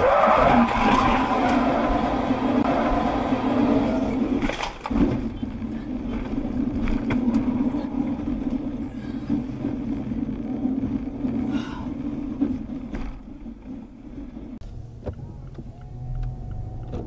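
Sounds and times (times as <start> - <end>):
car driving from inside cabin: 0.1 - 11.5, 14.6 - 17.0.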